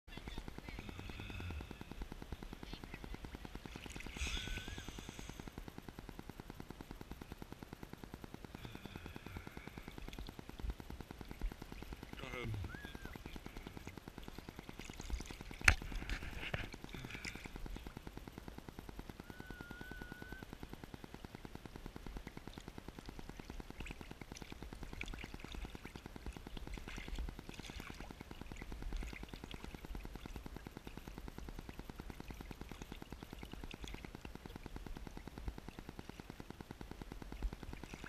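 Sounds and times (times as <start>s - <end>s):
fine rapid crackle: 0.1s - 38.0s.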